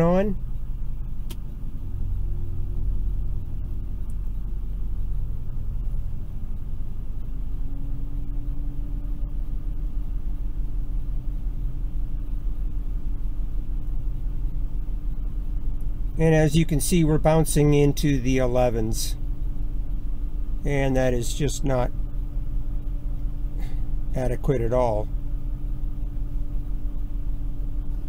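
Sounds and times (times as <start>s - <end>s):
car engine idling: 0.0s - 28.0s
cooling fan rumble: 0.0s - 28.0s
steady hum: 0.0s - 28.0s.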